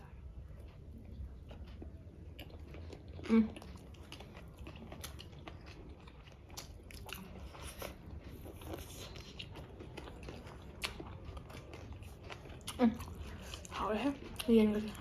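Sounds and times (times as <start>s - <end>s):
chewing and biting food: 0.6s - 15.0s.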